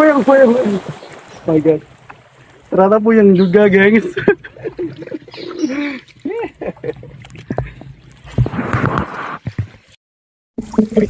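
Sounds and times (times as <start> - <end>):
paddle splashing water: 0.0 - 10.0.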